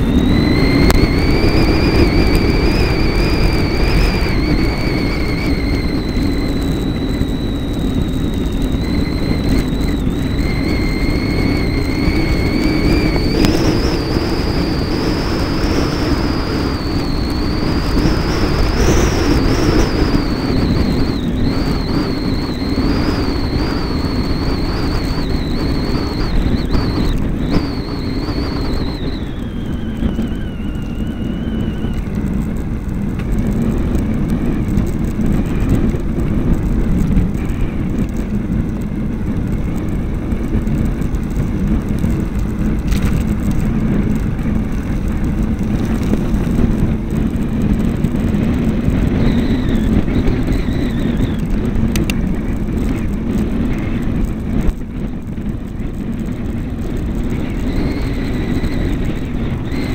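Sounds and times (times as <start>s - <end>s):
tyres rolling on wet tarmac: 0.0s - 59.9s
wind buffeting microphone: 0.0s - 59.9s.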